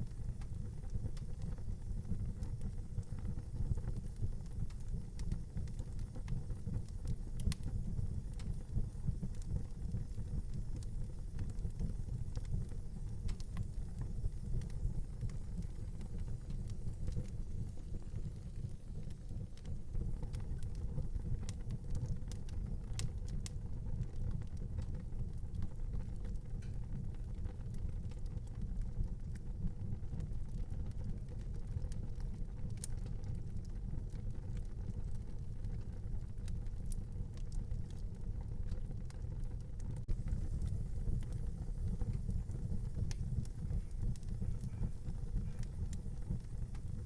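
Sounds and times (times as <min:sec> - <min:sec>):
fire burning with crackles: 0:00.0 - 0:47.0.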